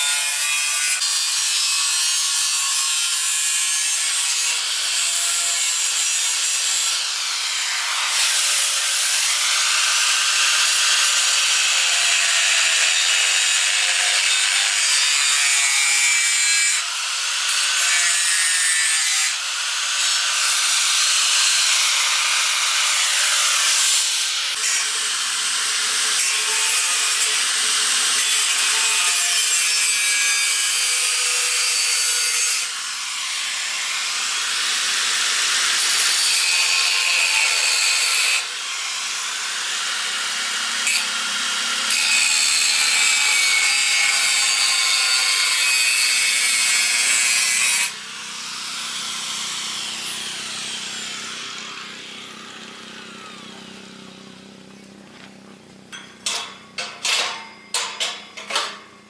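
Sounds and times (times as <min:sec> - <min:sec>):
angle grinder cutting steel: 0:00.0 - 0:59.0.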